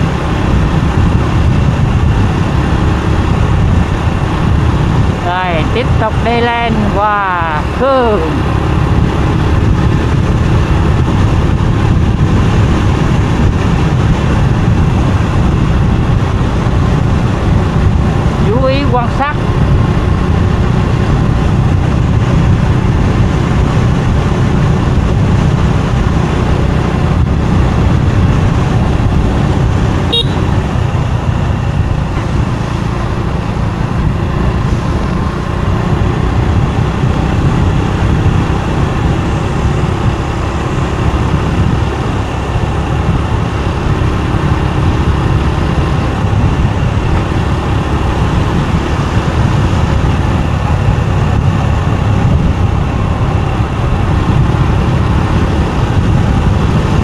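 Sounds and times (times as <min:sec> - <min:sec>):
motorbike engine running: 0:00.0 - 0:57.0
wind and road noise: 0:00.0 - 0:57.0.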